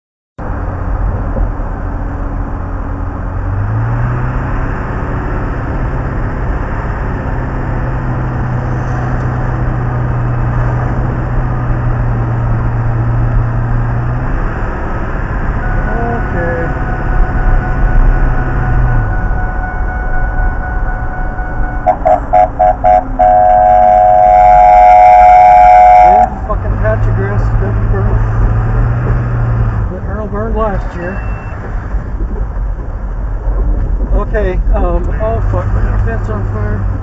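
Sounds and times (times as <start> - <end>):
road noise: 0.4 - 37.0
truck engine drone: 0.4 - 37.0.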